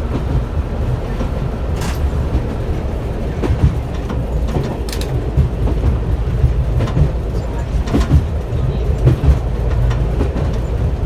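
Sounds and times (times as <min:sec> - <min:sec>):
diesel railcar rumble: 0:00.0 - 0:11.0
wheels clacking over rail joints: 0:00.0 - 0:11.0.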